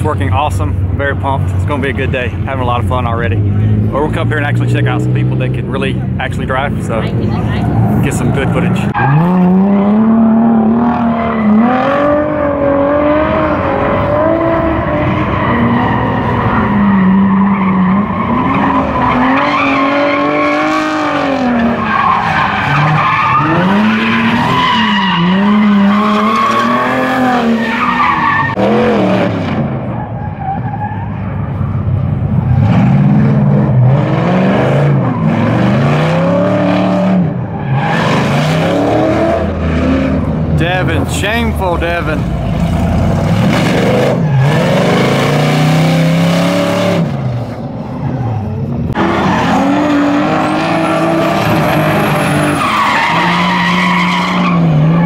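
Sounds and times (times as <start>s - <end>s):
car engine revving: 0.0s - 30.0s, 31.3s - 55.0s
tyres squealing and skidding: 6.4s - 47.1s, 47.9s - 55.0s.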